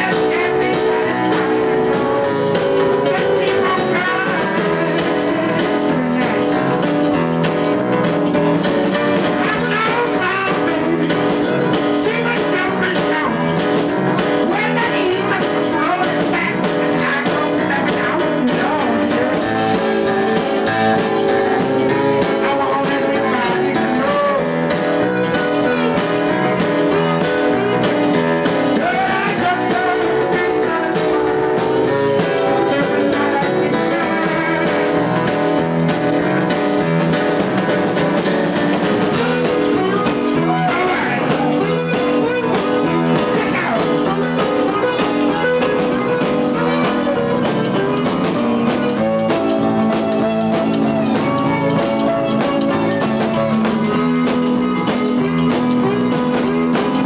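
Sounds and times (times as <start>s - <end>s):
live blues band playing: 0.0s - 57.0s.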